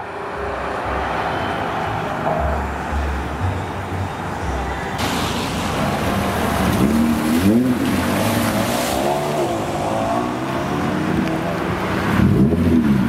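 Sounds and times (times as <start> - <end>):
car engine revving: 0.0 - 13.0
road traffic: 0.0 - 13.0.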